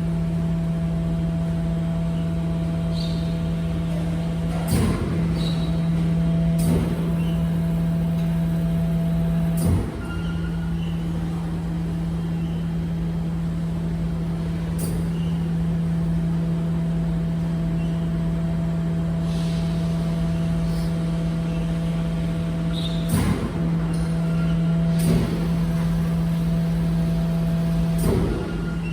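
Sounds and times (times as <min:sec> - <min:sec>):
garbage truck humming: 0:00.0 - 0:28.9.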